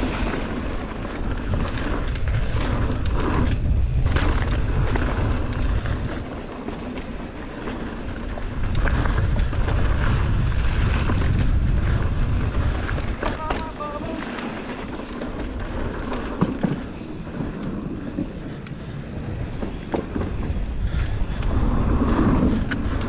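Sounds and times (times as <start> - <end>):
bike tyre and frame rattle: 0.0 - 23.0
wind buffeting microphone: 0.0 - 23.0.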